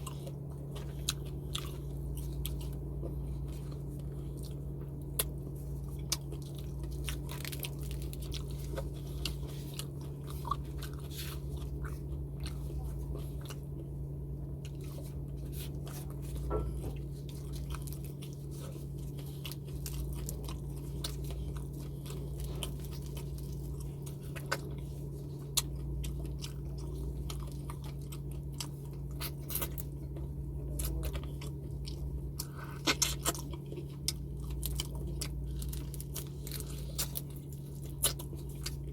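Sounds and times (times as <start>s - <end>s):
crunchy chewing of food: 0.0s - 38.9s
steady low hum: 0.0s - 38.9s.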